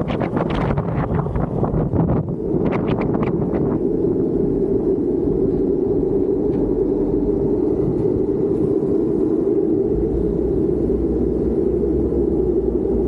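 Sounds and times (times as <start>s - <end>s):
wheels rolling on asphalt: 0.0s - 13.0s.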